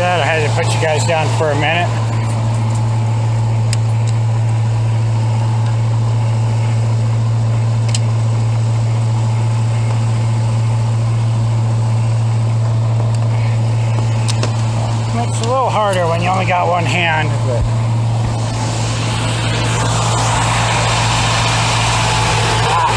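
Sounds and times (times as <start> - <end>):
truck engine idling: 0.0 - 22.9.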